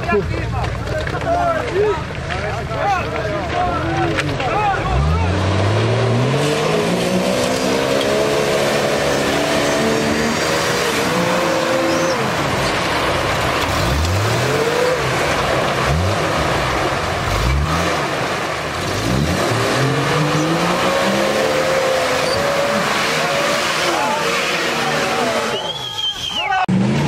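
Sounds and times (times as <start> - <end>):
engine revving: 4.2 - 25.8, 26.7 - 27.0.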